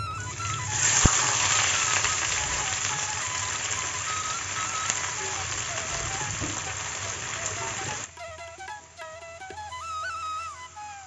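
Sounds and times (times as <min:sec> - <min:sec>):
onions sizzling in hot oil: 0:00.0 - 0:09.7
flute melody: 0:00.0 - 0:11.0.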